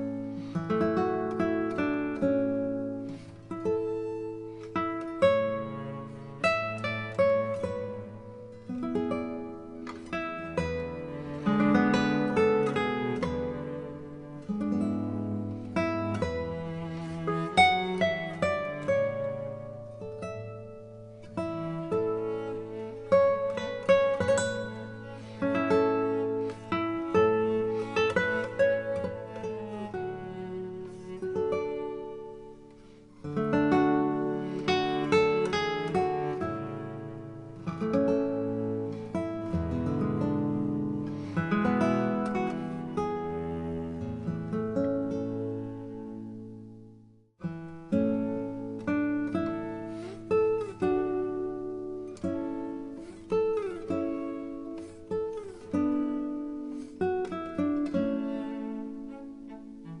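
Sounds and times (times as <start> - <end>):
acoustic guitar music: 0.0 - 60.0.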